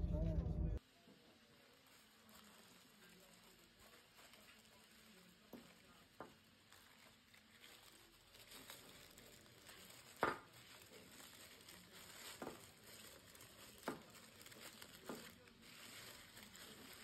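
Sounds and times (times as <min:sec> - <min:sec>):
tissue paper rustling: 0:00.8 - 0:17.0.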